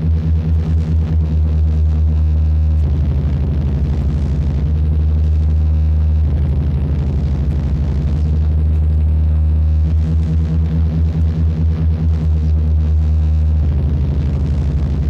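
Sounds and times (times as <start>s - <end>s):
low electronic drone: 0.0s - 15.0s.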